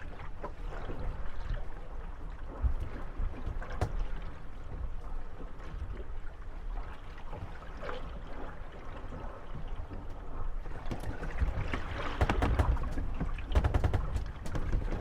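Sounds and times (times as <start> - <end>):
water lapping at hulls: 0.0 - 15.0
wooden boats creaking and knocking: 0.0 - 15.0.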